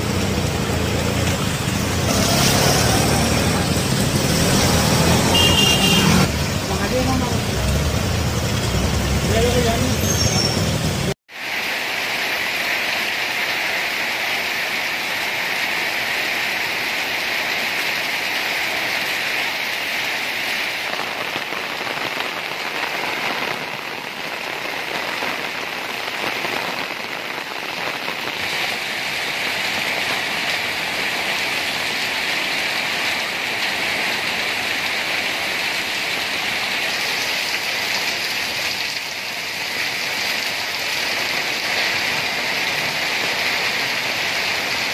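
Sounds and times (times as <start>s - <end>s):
heavy rain splashing on street: 0.0s - 44.9s.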